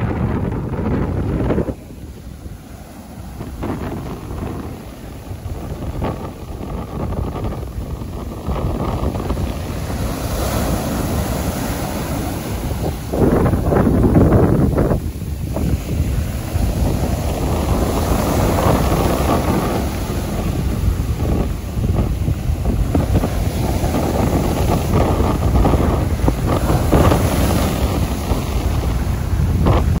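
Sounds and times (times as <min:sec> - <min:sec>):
waves breaking on beach: 0:00.0 - 0:30.0
wind buffeting microphone: 0:00.0 - 0:30.0.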